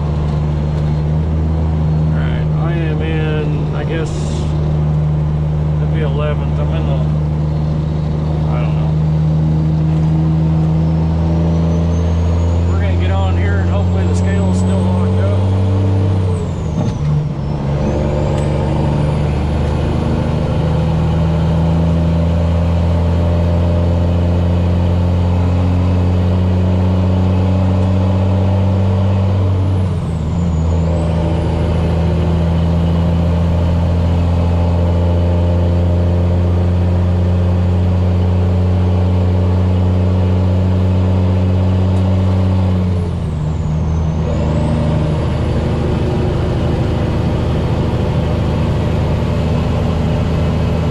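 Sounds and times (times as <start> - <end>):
diesel truck engine accelerating: 0.0 - 50.9.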